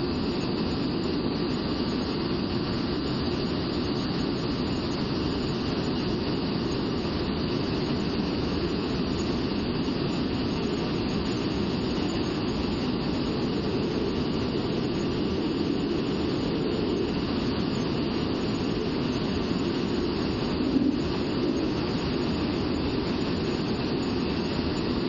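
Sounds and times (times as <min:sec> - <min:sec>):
jet engine roar in cockpit: 0:00.0 - 0:25.0.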